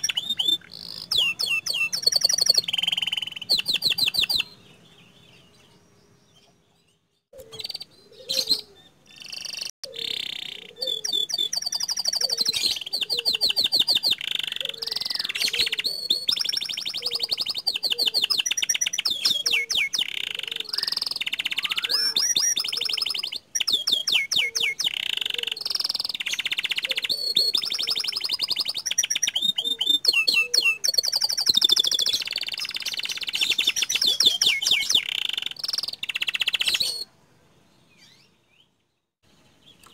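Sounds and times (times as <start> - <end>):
canary singing trills: 0.0 - 37.1.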